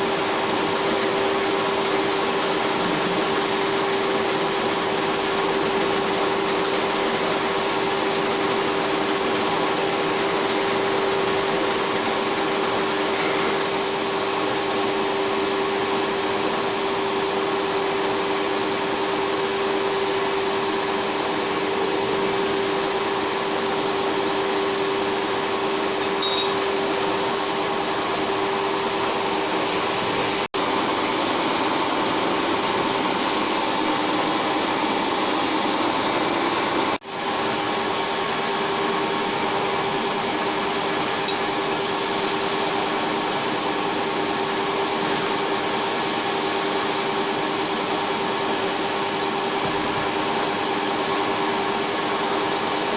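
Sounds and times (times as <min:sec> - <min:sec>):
lathe humming and whining: 0:00.0 - 0:52.9.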